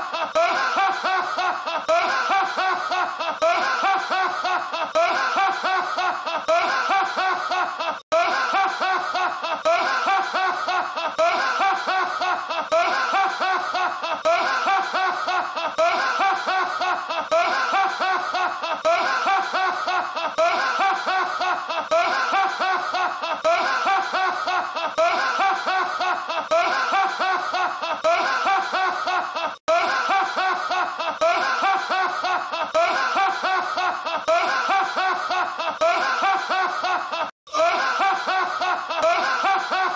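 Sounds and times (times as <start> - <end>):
man laughing hard: 0.0 - 39.9.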